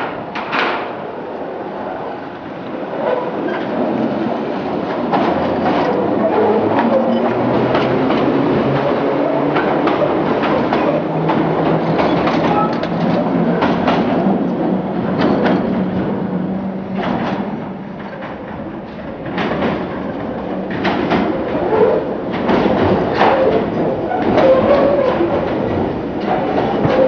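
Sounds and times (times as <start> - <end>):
wheels clacking over rail joints: 0.0 - 1.1, 2.6 - 27.0
train rumble: 0.0 - 27.0.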